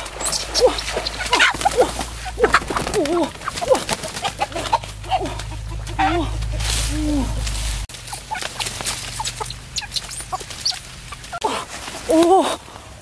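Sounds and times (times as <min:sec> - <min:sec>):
chickens clucking: 0:00.0 - 0:11.4.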